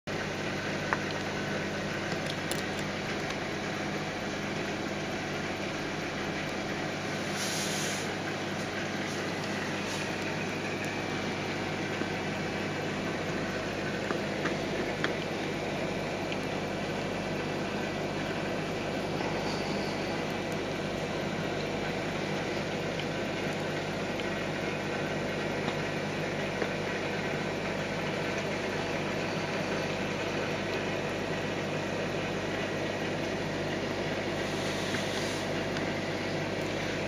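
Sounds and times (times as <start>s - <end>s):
aquarium pump hum: 0.0s - 37.0s
circulating water rushing: 0.1s - 37.0s.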